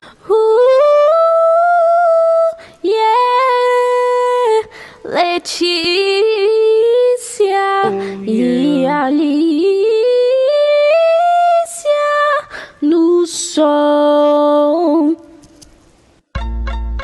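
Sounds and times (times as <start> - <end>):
high-pitched wordless singing: 0.3 - 15.4.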